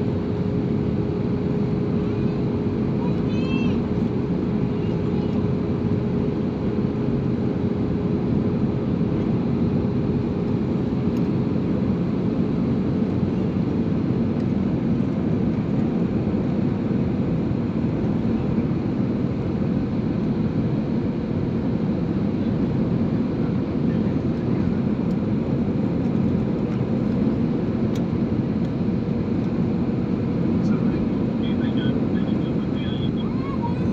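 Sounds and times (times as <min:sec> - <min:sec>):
airliner engines rumbling: 0:00.0 - 0:33.9
faint steady whine: 0:00.0 - 0:33.9.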